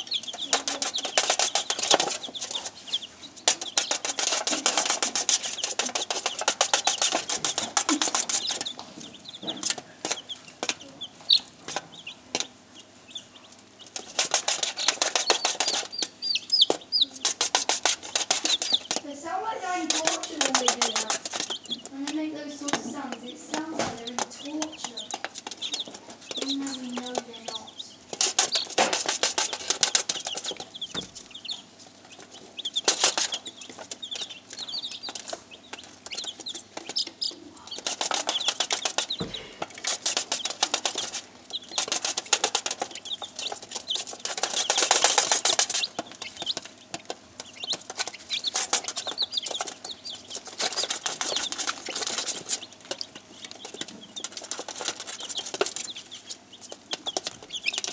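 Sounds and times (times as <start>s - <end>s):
chick claws tapping on foil tray: 0.0s - 12.9s, 13.5s - 57.9s
chicks peeping: 0.0s - 57.9s.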